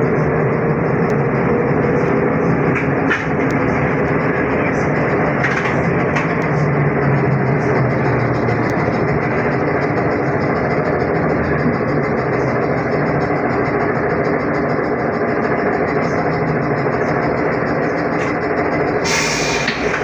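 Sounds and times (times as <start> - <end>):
tyres and running gear rumble: 0.0 - 20.0.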